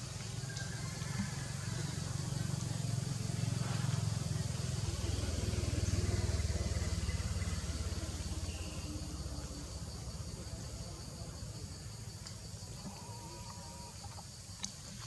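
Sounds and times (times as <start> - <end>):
engine rumbling: 0.0 - 14.9.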